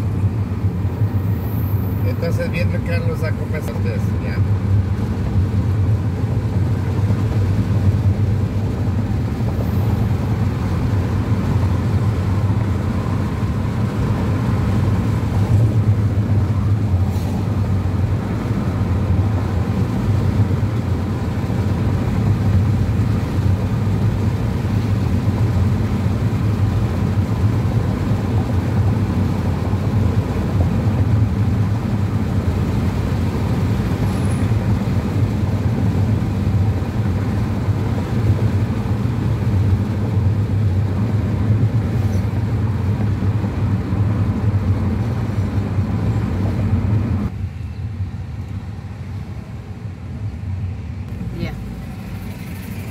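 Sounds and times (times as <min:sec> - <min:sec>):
car engine rumble: 0:00.0 - 0:52.9
tyres on paved road: 0:00.0 - 0:52.9.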